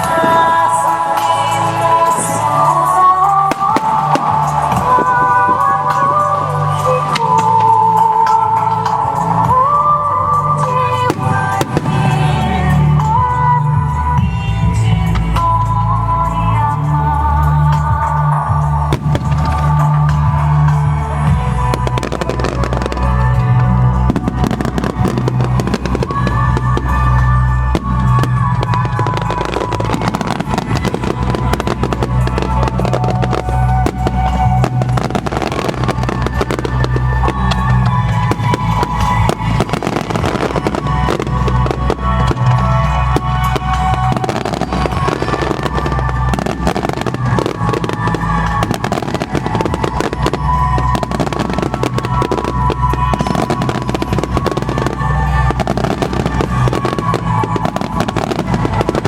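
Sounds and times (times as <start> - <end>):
fireworks bursting and crackling: 0.0 - 59.0
loud music with heavy bass: 0.0 - 59.0.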